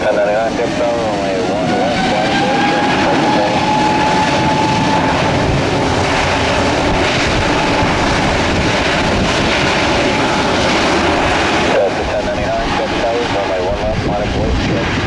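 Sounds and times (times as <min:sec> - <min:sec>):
high engine whine: 0:00.0 - 0:15.0
jet engines roaring: 0:00.0 - 0:15.0.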